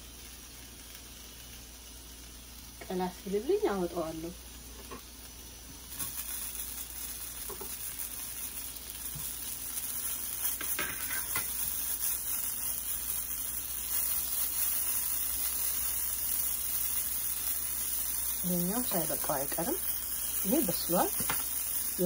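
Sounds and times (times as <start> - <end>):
dough sizzling in a pan: 0.0 - 22.0.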